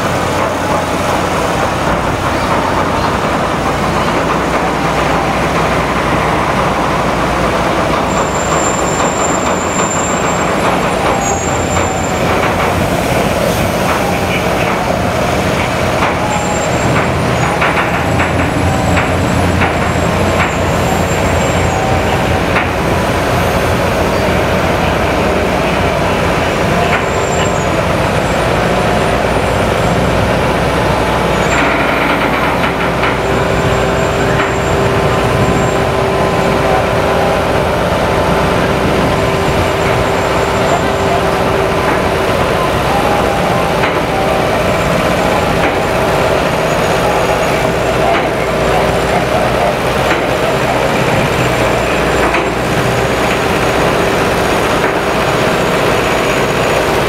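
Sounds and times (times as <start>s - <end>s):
truck diesel engines running: 0.0s - 57.0s.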